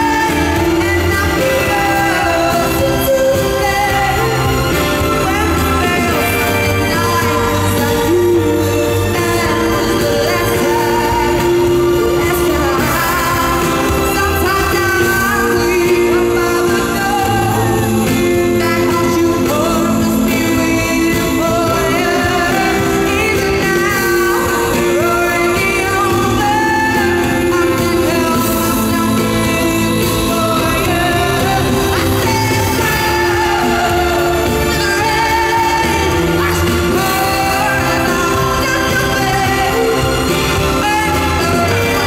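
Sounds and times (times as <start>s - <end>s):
live band playing: 0.0s - 42.0s
woman singing pop ballad: 0.0s - 42.0s.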